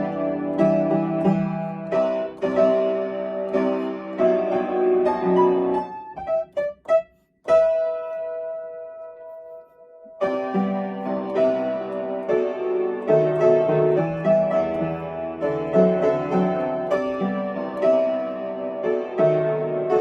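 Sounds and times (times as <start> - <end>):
piano playing melody with chords: 0.0 - 20.0.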